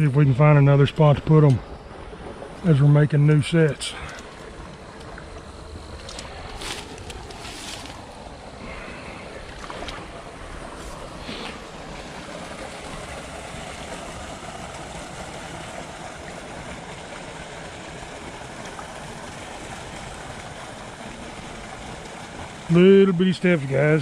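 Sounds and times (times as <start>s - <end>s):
rushing floodwater: 0.0s - 24.0s.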